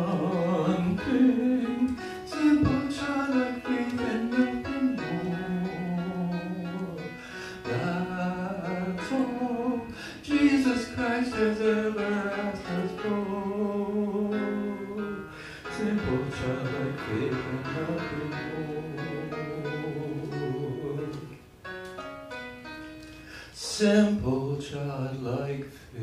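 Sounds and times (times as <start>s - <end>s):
slow piano accompaniment: 0.0s - 26.0s.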